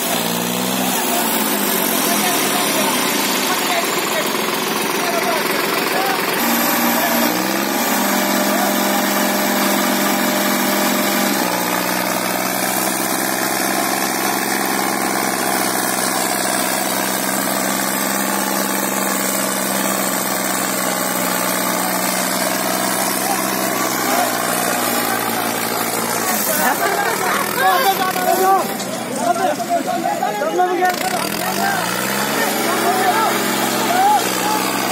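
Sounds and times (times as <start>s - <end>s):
diesel tractor engines under load: 0.0s - 34.9s.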